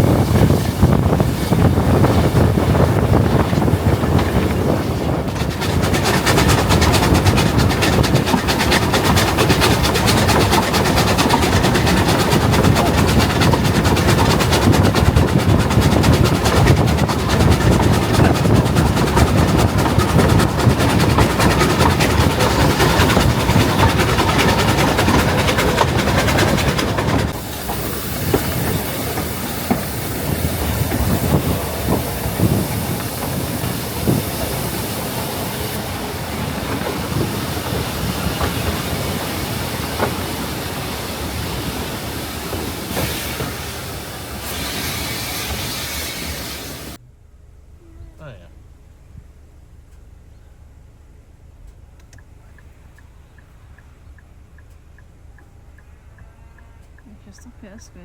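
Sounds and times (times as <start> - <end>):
wheel-on-rail clatter: 0.0 - 47.0
steam train rumbling: 0.0 - 47.1, 47.8 - 58.0.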